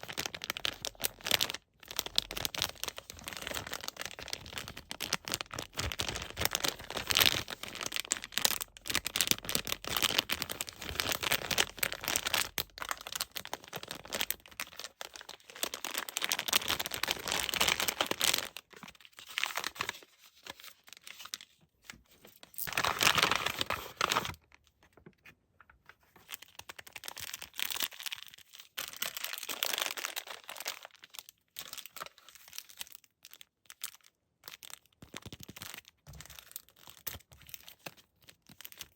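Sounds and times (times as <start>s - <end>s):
packaging crinkling and tearing: 0.0s - 25.0s, 25.7s - 38.9s.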